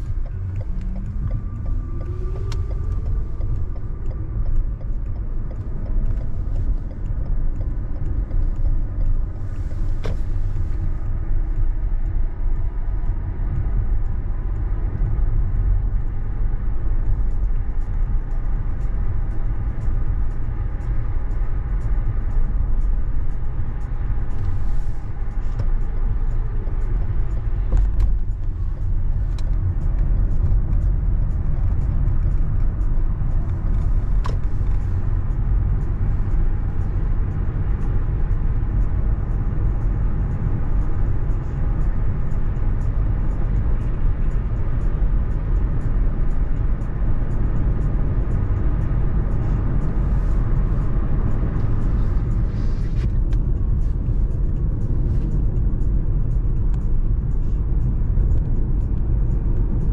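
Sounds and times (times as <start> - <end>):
car engine hum: 0.0 - 59.9
road and tyre noise: 0.0 - 59.9.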